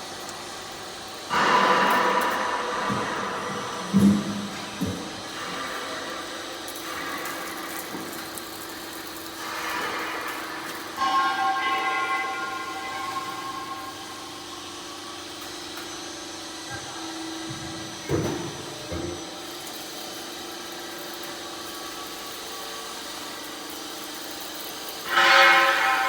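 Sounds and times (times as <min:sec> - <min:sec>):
roll forming machine motor hum: 0:00.0 - 0:26.0.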